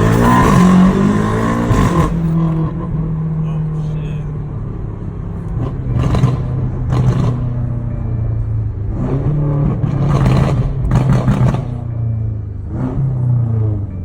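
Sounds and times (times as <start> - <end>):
car engine drone: 0.0 - 14.0.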